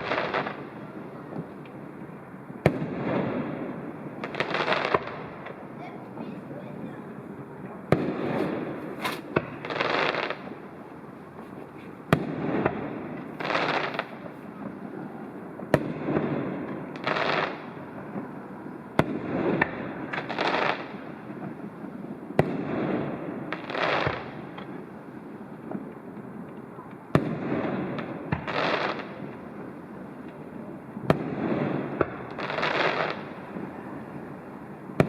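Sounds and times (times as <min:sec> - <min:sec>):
crackling firework bursts: 0:00.0 - 0:35.0
firework bangs: 0:00.0 - 0:35.0.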